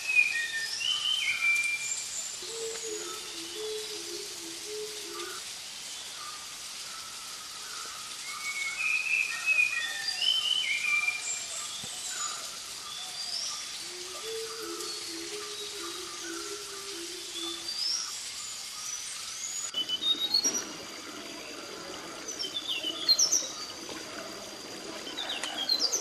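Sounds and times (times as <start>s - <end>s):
birds chirping and whistling: 0.0s - 5.4s, 6.0s - 26.0s.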